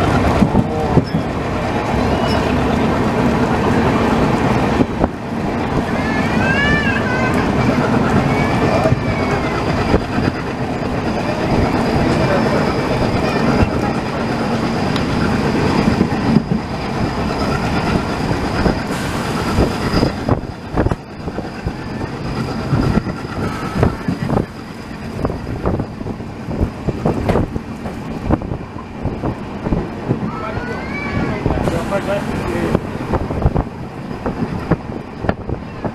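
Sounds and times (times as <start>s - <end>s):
wheels clacking over rail joints: 0.0s - 30.7s
train wheels rumbling on rail: 0.0s - 35.9s.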